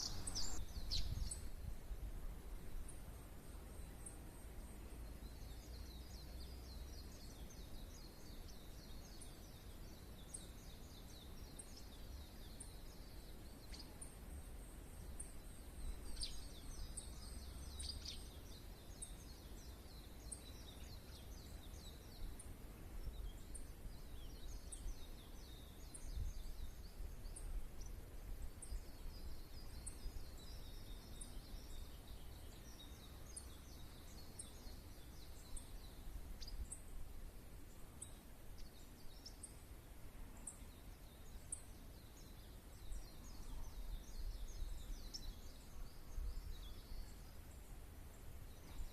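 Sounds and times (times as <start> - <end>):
songbirds singing: 0.0 - 48.9.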